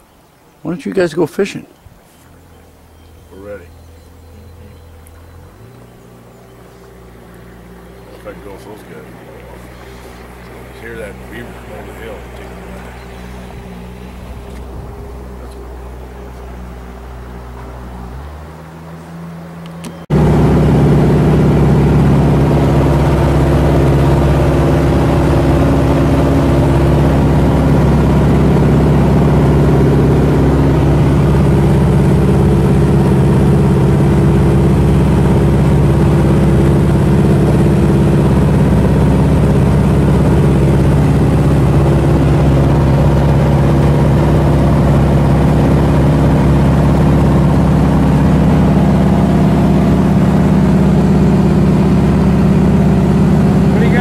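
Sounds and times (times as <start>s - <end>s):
propeller plane engine drone: 1.7s - 54.0s.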